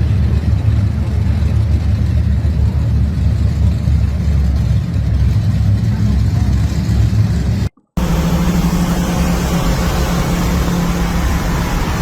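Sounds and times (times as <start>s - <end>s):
car engine running: 0.2s - 12.0s.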